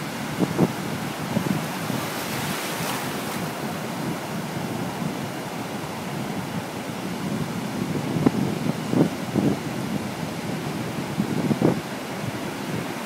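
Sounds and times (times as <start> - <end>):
surf washing over sand: 0.0 - 13.0
wind rumbling on microphone: 0.0 - 13.0.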